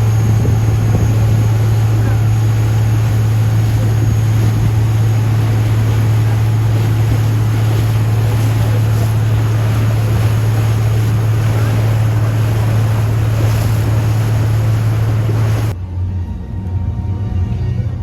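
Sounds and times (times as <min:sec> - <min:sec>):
boat engine droning: 0:00.0 - 0:15.8
water rushing past: 0:00.0 - 0:15.8
wind rushing: 0:00.0 - 0:15.8.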